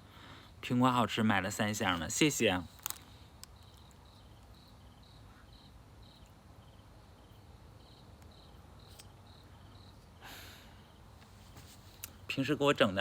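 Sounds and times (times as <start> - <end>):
crickets chirping: 0.1 - 11.4.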